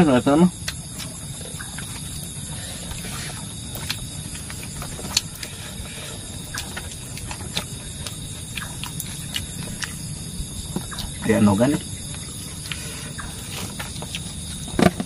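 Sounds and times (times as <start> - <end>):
steady background hiss: 0.0 - 15.0
chewing smacks: 0.6 - 11.2, 11.8 - 15.0.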